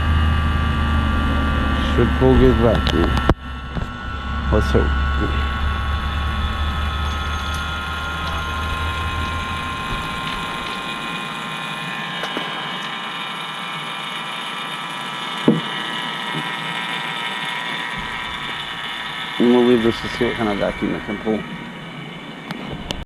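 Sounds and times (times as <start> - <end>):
vacuum pump running: 0.0 - 23.0.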